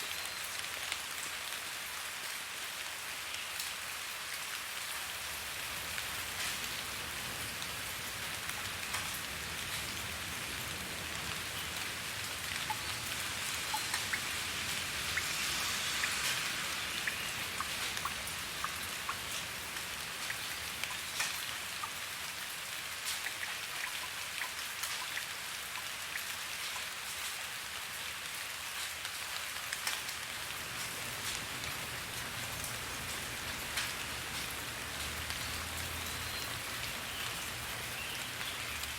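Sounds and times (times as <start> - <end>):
rain falling: 0.0 - 38.9
raindrops ticking: 5.2 - 38.9.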